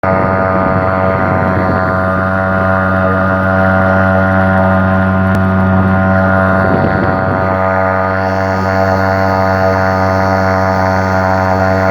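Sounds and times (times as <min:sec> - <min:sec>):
outboard motor running: 0:00.0 - 0:11.9.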